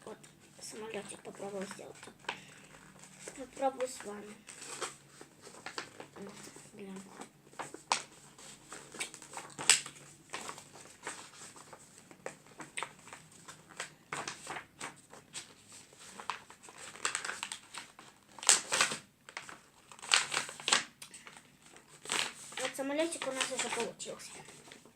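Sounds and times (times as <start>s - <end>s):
paper rustling and crinkling: 0.0s - 24.9s.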